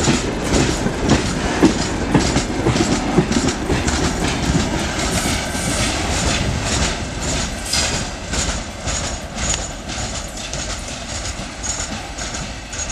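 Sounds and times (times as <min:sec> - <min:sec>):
train wagons rumbling past: 0:00.0 - 0:12.9
wheel clacks over rail joints: 0:00.0 - 0:12.9.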